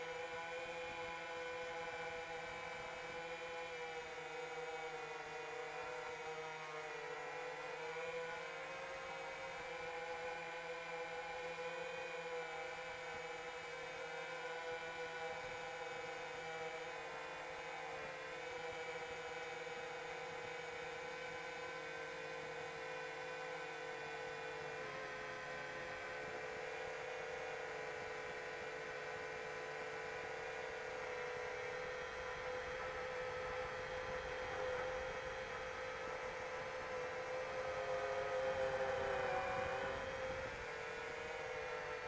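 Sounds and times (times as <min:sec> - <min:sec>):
drone motors and propellers whining: 0:00.0 - 0:42.0.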